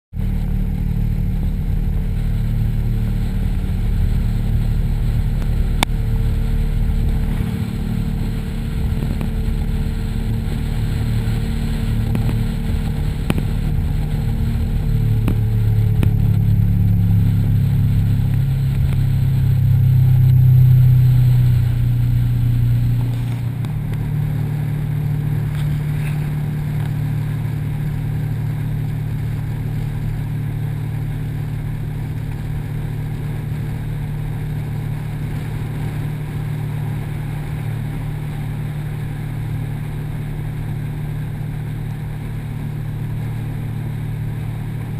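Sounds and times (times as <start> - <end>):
boat engine running: 0.0 - 44.9
water rushing along hull: 0.1 - 44.9.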